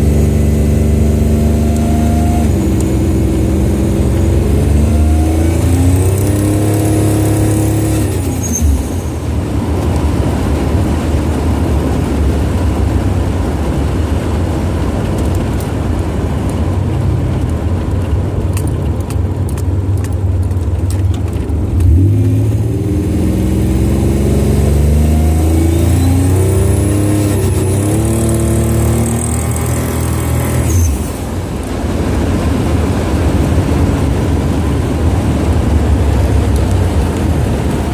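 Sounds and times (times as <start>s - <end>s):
car engine accelerating: 0.0s - 14.2s, 16.2s - 37.9s.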